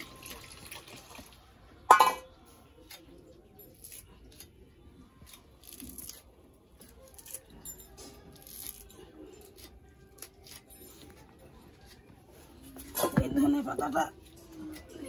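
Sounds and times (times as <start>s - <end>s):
vegetables being cut and handled: 2.5s - 15.0s.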